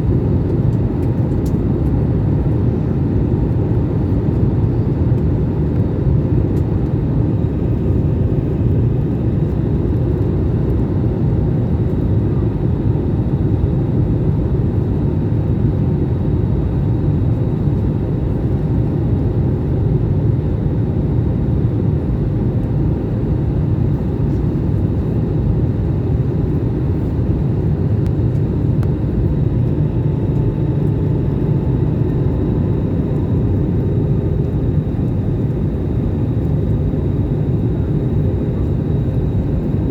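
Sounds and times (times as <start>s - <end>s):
airliner cabin engine roar: 0.0s - 39.9s
faint steady whine: 0.0s - 39.9s.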